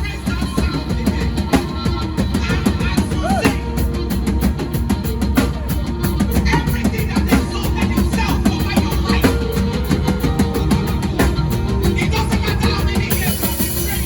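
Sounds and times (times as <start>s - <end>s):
drum kit hits: 0.0s - 14.0s
live band playing instrumental: 0.0s - 14.0s
steady bass: 0.0s - 14.0s.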